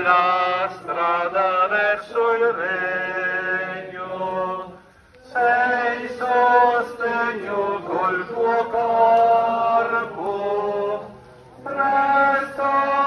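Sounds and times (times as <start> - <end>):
religious chant singing: 0.0 - 13.0.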